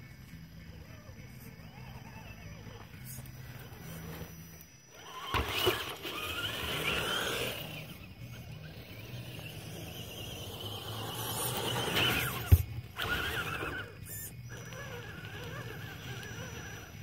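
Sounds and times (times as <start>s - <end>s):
electric rc car motor whining: 0.2s - 17.0s.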